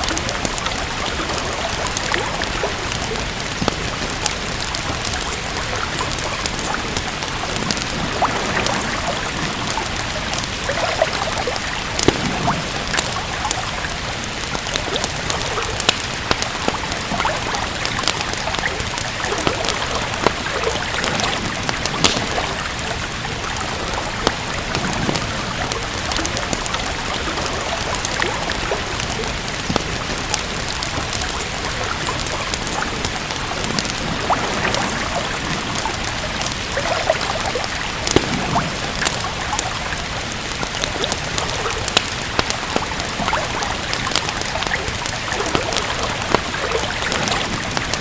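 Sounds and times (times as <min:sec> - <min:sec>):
steady rain: 0:00.0 - 0:48.0
wood fire crackling: 0:00.0 - 0:48.0.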